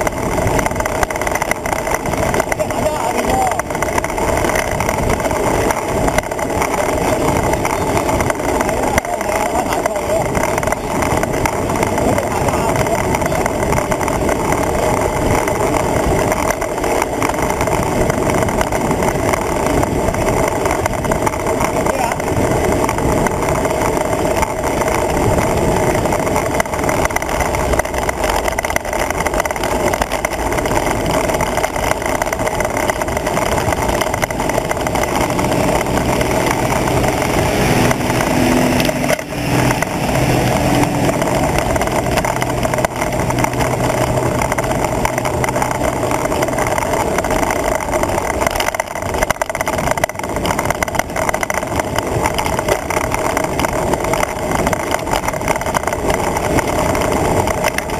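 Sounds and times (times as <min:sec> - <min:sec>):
low hum: 0:00.0 - 0:57.9
road noise: 0:00.0 - 0:57.9
wind rush on microphone: 0:00.0 - 0:57.9.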